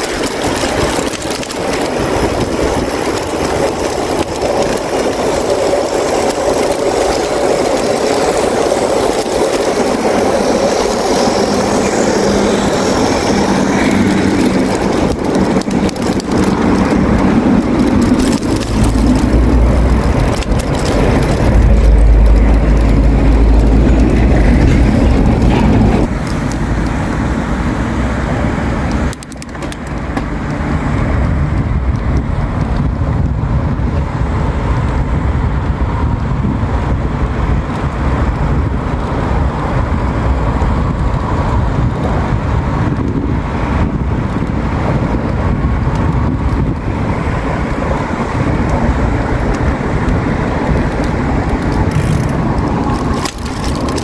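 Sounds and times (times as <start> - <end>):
heavy low rumble: 0.0 - 54.0
wind buffeting microphone: 0.0 - 54.0.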